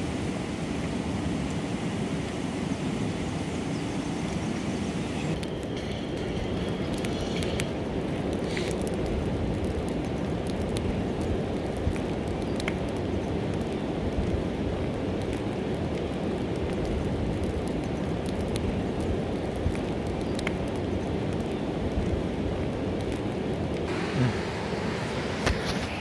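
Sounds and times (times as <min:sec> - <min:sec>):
campfire popping and crackling: 0:00.0 - 0:26.0.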